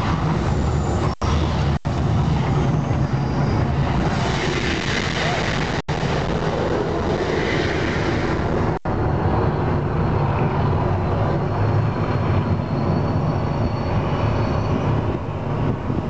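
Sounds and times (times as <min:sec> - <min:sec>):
gas fire jets rumbling: 0:00.0 - 0:16.0.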